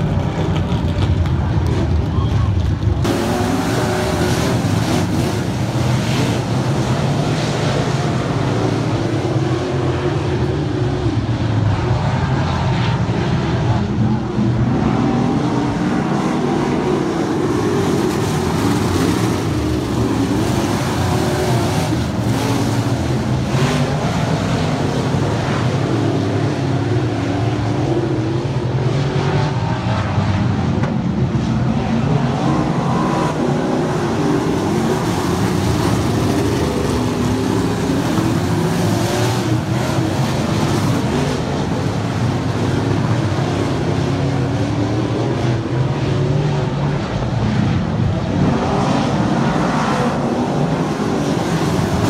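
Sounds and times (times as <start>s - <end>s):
race car engines droning: 0.0s - 52.0s.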